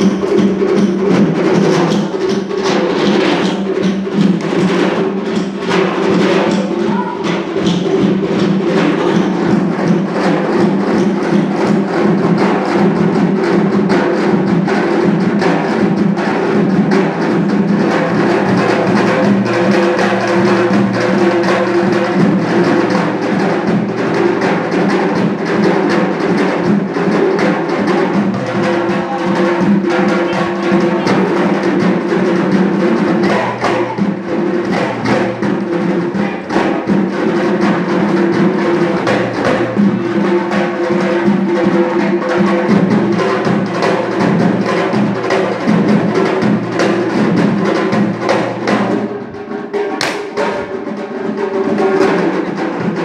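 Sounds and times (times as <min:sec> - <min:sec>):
hand drums fast rhythm: 0:00.0 - 0:53.0.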